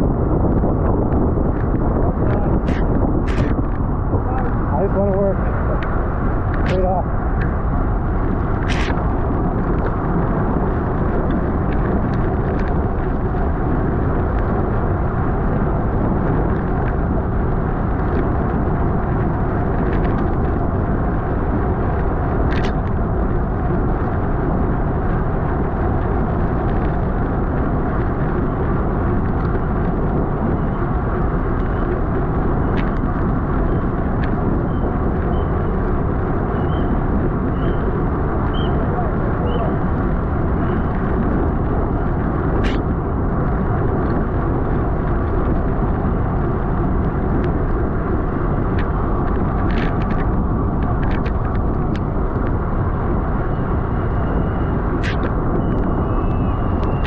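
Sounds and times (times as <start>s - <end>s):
wind rushing across microphone: 0.0s - 57.0s.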